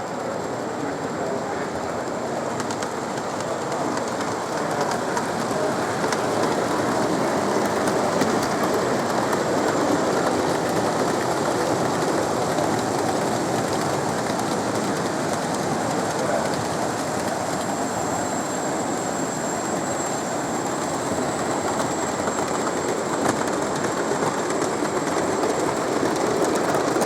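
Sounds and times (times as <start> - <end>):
model trains rumbling on track: 0.0 - 27.0.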